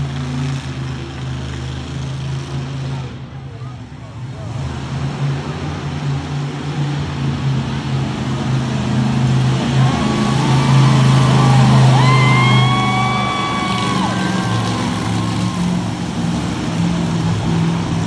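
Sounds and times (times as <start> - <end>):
monster truck engine running: 0.0 - 18.0.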